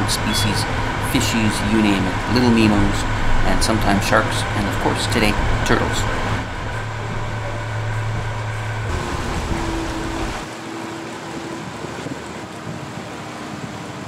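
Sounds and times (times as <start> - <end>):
boat motor deep drone: 0.0 - 14.0
faint steady whine: 0.0 - 14.0.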